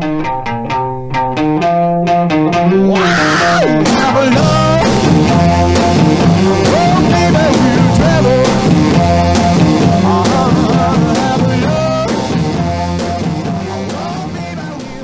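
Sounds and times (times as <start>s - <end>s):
rock song with singing and guitar: 0.0s - 15.0s.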